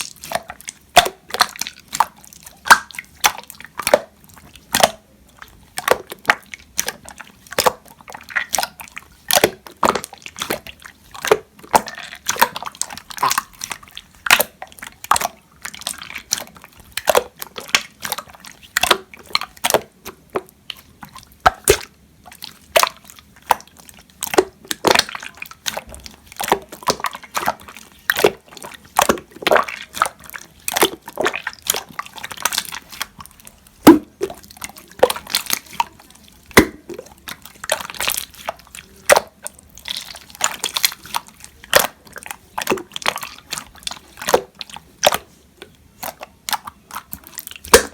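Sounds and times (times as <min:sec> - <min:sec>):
slime squished by hand: 0:00.0 - 0:47.9.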